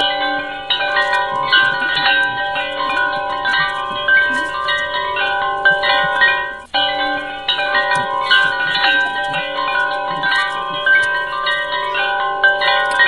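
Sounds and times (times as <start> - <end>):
ringing held notes melody: 0.0 - 13.0.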